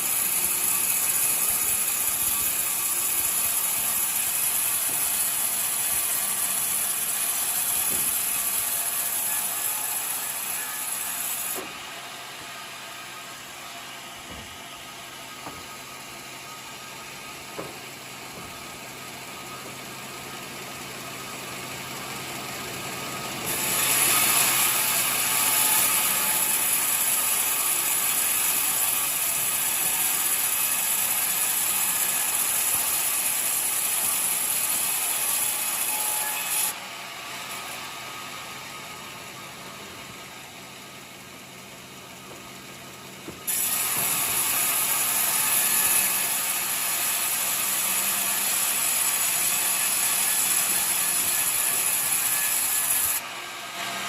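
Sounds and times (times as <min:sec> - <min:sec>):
sawmill engine hum: 0:00.0 - 0:31.8, 0:32.4 - 0:54.0.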